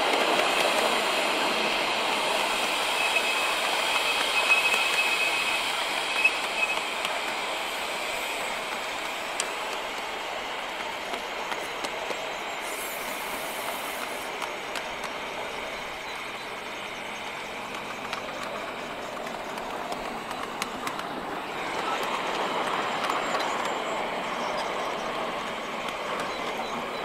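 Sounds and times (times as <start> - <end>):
wheels rattling on rail: 0.0 - 27.0.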